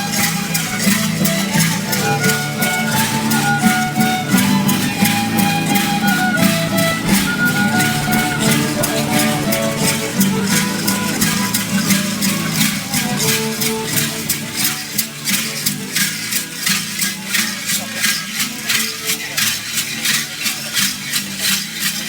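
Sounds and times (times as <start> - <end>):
live folk dance music: 0.0 - 17.8.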